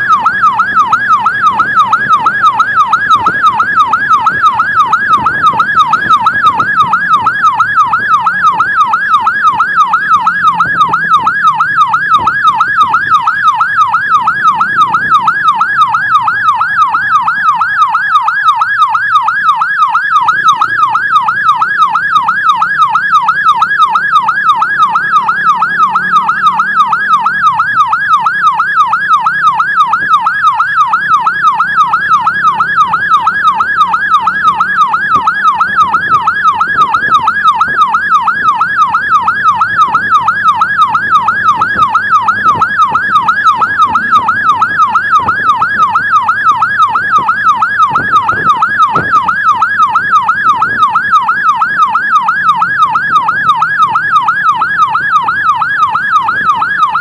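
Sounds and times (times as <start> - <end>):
emergency siren yelping: 0.0 - 57.0
vehicle engine and road noise: 0.0 - 57.0.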